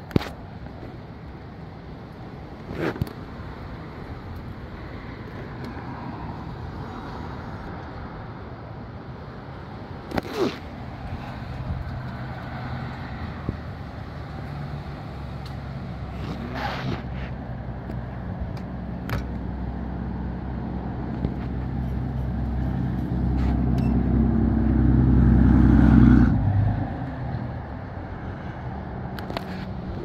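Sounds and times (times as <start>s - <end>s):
gusty wind through trees: 0.0s - 30.0s.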